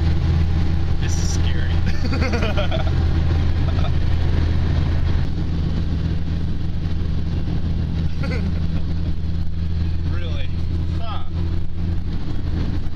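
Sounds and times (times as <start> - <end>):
car engine droning: 0.0 - 12.9
road noise: 0.0 - 12.9.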